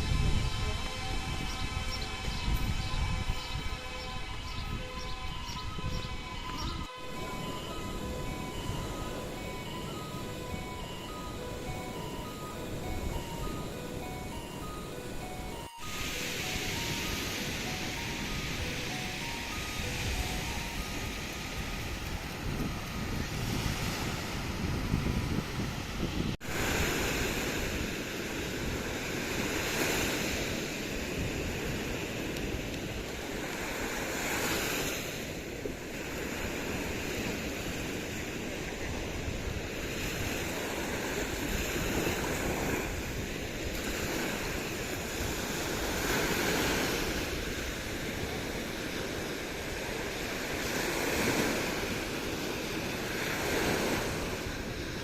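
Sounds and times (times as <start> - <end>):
wind on microphone: 0.0 - 55.0
sea waves washing onto shore: 6.5 - 55.0.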